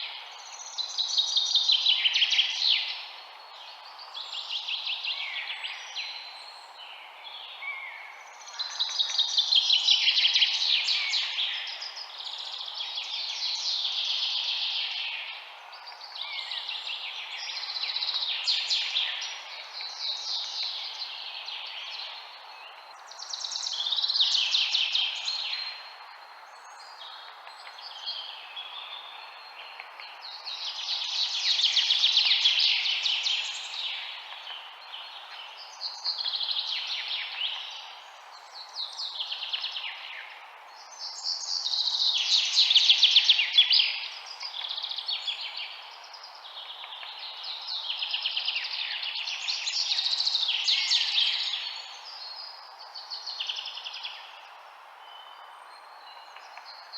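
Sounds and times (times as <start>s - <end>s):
songbirds singing trilled phrases: 0.0s - 56.9s
steady background hiss: 0.0s - 56.9s.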